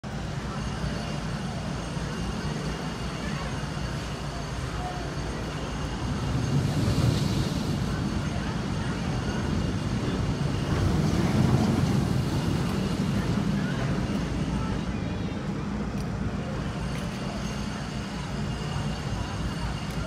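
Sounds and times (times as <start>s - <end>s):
roller coaster rumbling on track: 0.0s - 20.0s.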